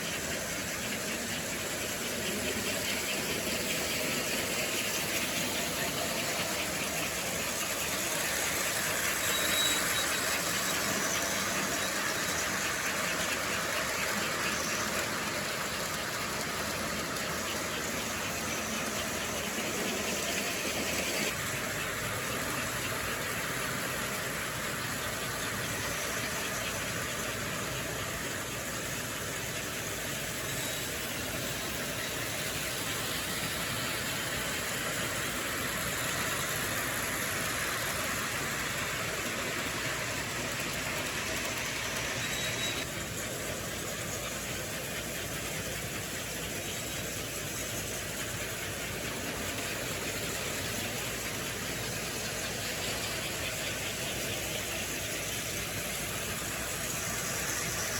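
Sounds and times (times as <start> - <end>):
model train running on track: 0.0 - 57.9.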